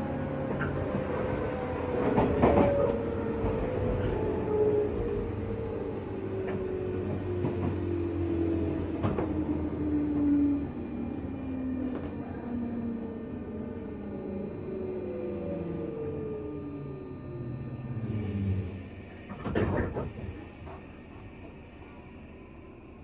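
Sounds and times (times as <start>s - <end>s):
traction motors whining: 2.0s - 21.6s.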